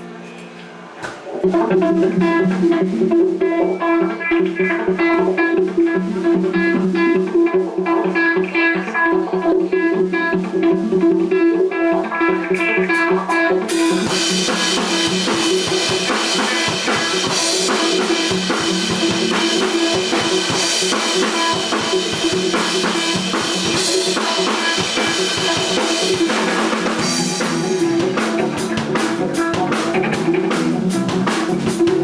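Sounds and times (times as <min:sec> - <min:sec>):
drum kit with cymbals: 0:00.0 - 0:32.0
electric guitar picking notes: 0:00.0 - 0:32.0.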